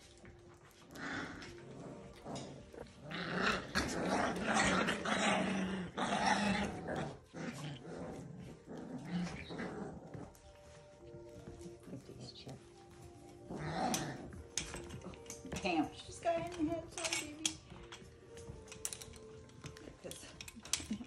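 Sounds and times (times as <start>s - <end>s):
puppies growling in play: 0.0s - 21.0s.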